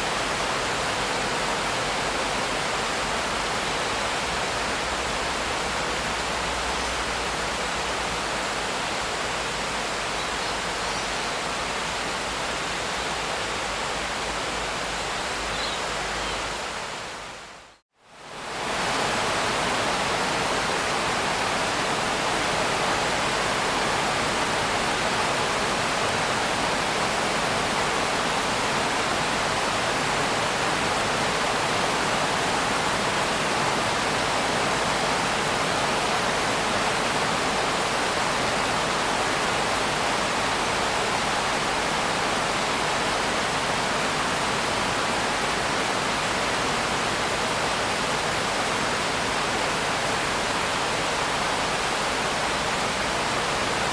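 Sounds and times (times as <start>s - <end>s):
dense rain hiss: 0.0s - 53.9s.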